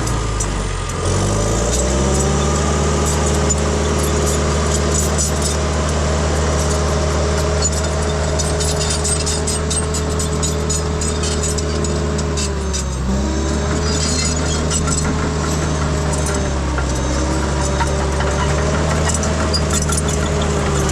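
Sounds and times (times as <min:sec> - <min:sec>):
dozer diesel engine running: 0:00.0 - 0:20.9
tracks clanking and rattling: 0:00.0 - 0:20.9.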